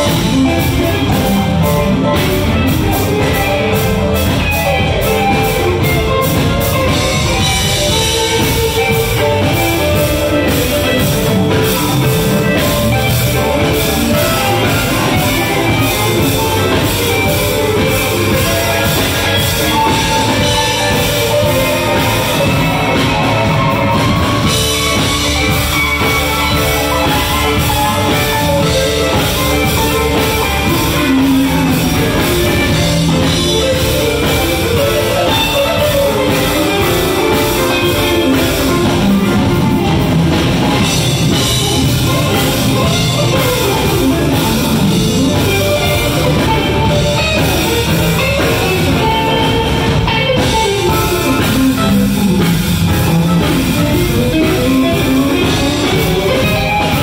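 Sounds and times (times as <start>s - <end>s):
live rock band: 0.0s - 57.0s.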